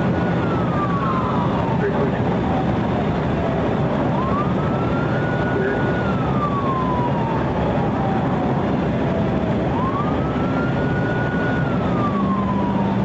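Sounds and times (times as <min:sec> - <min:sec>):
car road and engine noise: 0:00.0 - 0:13.0
police siren wailing: 0:00.0 - 0:13.0.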